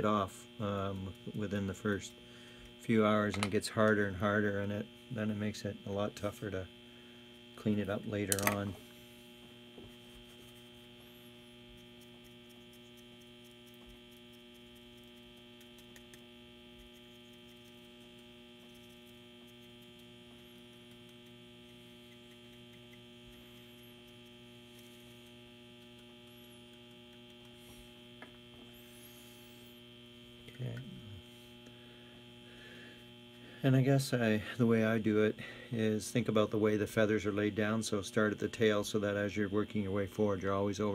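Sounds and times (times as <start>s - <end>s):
electrical mains hum: 0.0s - 40.9s
thin high whine: 0.0s - 40.9s.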